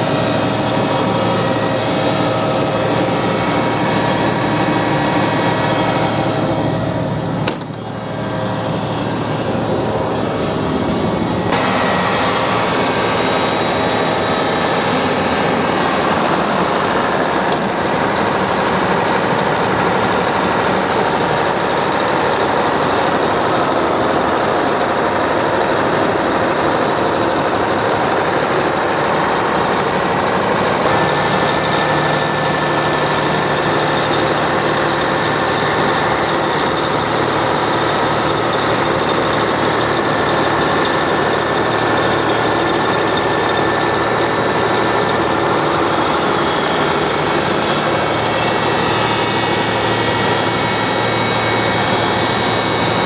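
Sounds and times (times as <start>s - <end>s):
air compressor diesel engine running: 0.0s - 53.0s
steady hums: 0.0s - 53.0s.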